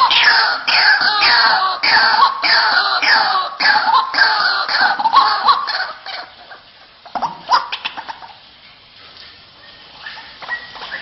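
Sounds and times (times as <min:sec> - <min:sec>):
waterhen harsh calls: 0:00.0 - 0:08.6, 0:09.6 - 0:11.0.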